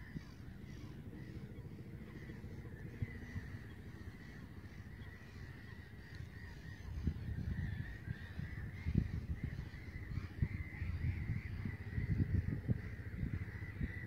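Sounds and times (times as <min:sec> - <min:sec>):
birds calling: 0:00.0 - 0:14.0
low rumble on microphone: 0:00.0 - 0:14.0.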